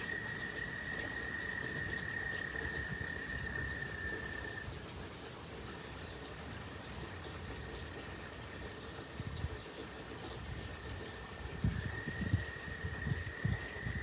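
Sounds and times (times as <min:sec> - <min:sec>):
steady rain: 0:00.0 - 0:14.0
ticks of raindrops: 0:00.0 - 0:14.0.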